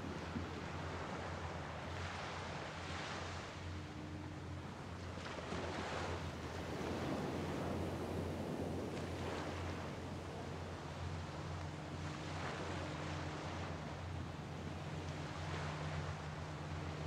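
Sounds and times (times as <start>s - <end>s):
low wind rumble: 0.0s - 17.0s
waves washing onto beach: 0.0s - 17.0s.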